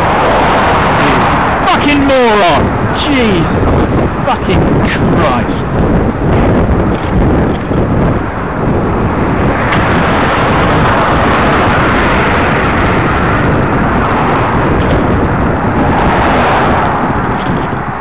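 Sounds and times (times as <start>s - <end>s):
car passing close: 0.0s - 18.0s
wind noise on microphone: 0.0s - 18.0s.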